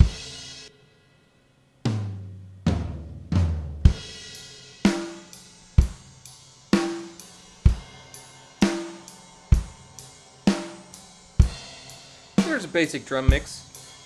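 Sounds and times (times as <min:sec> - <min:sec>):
acoustic drum kit slow beat: 0:00.0 - 0:00.8, 0:01.8 - 0:14.0.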